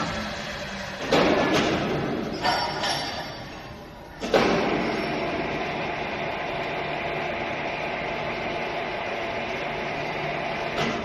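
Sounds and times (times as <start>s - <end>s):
steady machine noise: 0.0s - 11.0s.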